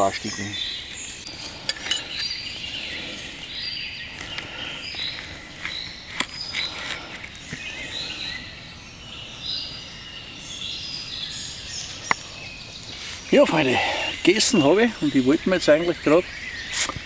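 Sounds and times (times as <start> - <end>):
birds singing and chirping: 0.0 - 17.0.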